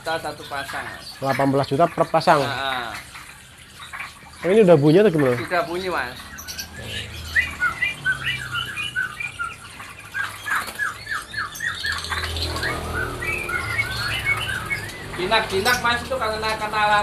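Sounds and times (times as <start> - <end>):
songbirds chirping and squawking: 0.0 - 17.0.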